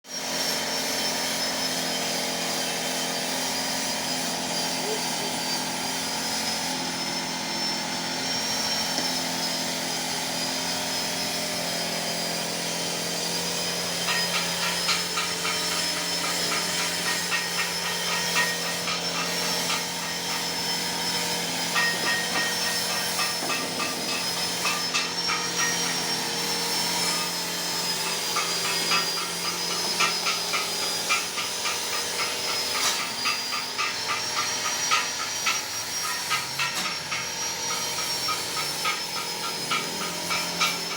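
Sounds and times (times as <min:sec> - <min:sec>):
machine motor whining: 0:00.2 - 0:40.9.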